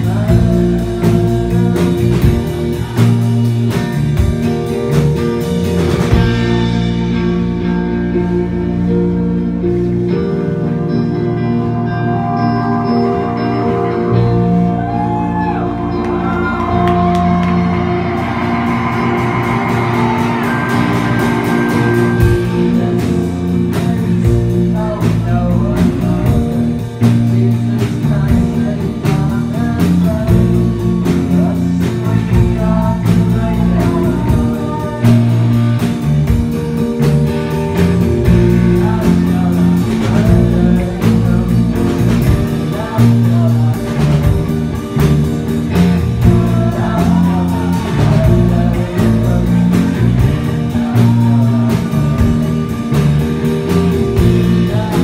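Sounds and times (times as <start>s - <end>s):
drum kit with cymbal hits: 0.0s - 8.1s, 13.0s - 55.0s
bass guitar: 0.0s - 55.0s
electric guitar: 0.0s - 55.0s.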